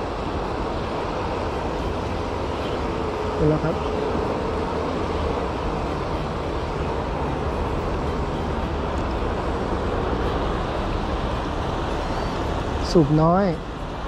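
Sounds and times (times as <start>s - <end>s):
river water rushing through weir: 0.0s - 14.0s.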